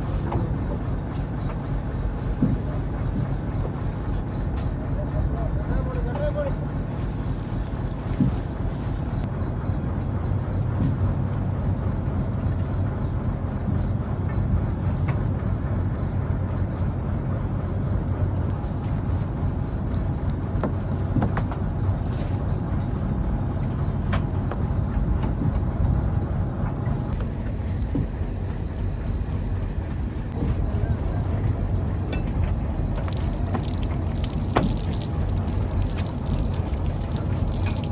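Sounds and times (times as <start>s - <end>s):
boat diesel engine droning: 0.0s - 37.9s.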